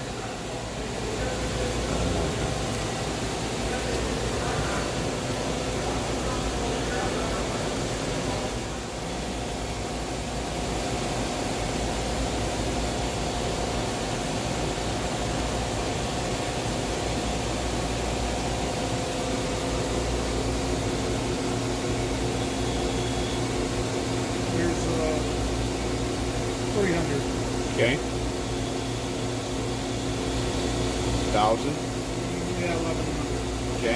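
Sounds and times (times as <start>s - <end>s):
machine hum: 0.1s - 33.9s.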